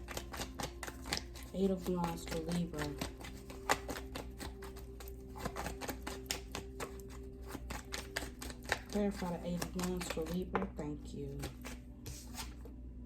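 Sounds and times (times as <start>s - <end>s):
cards being shuffled: 0.0s - 10.4s, 11.4s - 12.7s.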